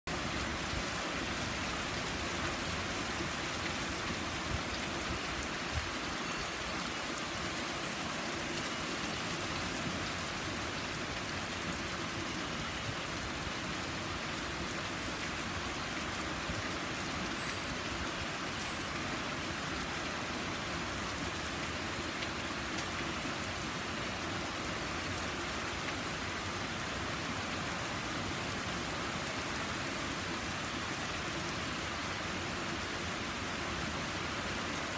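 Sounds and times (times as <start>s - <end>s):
heavy rain on lawn and deck: 0.1s - 34.9s.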